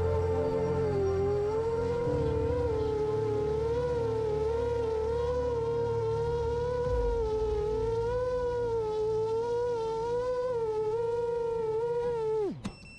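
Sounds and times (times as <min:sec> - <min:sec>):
drone motors whining: 0:00.0 - 0:12.7.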